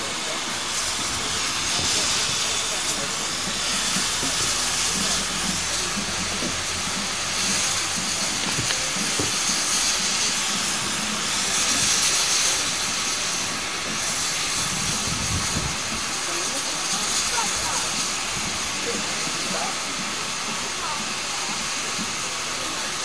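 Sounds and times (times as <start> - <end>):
faint voices: 0.0 - 23.0
steam hissing from locomotives: 0.0 - 23.0.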